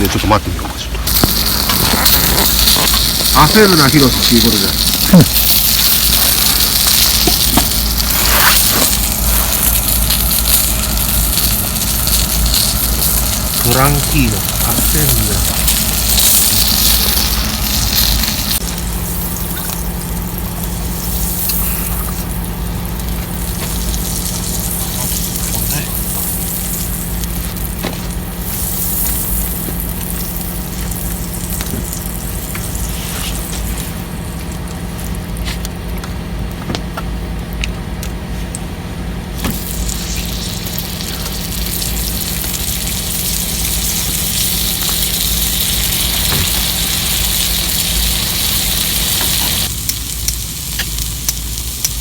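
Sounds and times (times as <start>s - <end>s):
broth simmering and sizzling: 1.0s - 36.5s, 37.3s - 52.0s
campfire crackles: 1.0s - 52.0s.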